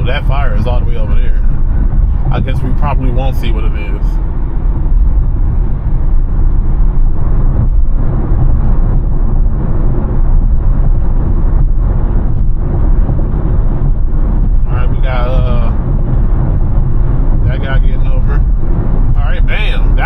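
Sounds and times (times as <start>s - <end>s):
road and tyre rumble: 0.0s - 20.0s.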